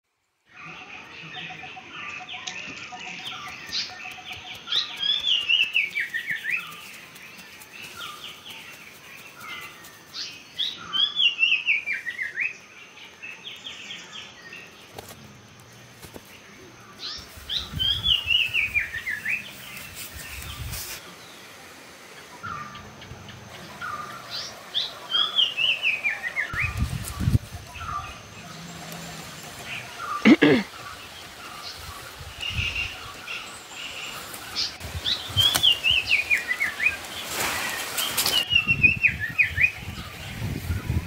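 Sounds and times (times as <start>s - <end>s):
other birds chirping: 0.6s - 41.0s.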